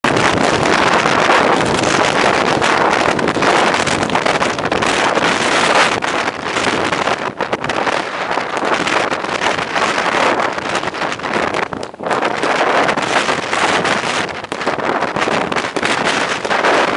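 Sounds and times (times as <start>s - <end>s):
strong wind buffeting microphone: 0.0s - 16.9s.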